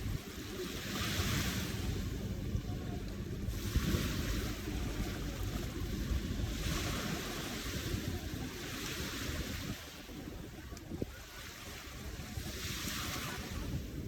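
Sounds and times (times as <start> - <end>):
waves washing in: 0.0 - 14.0.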